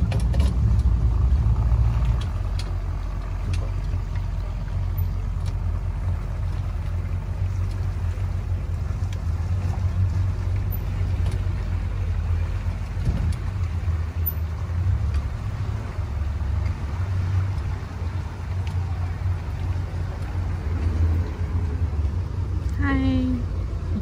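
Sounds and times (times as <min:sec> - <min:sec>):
boat motor rumbling: 0:00.0 - 0:24.0.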